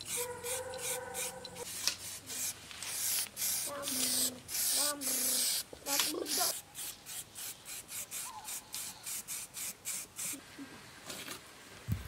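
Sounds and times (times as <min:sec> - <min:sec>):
aerosol spray can hissing: 0:00.0 - 0:10.4.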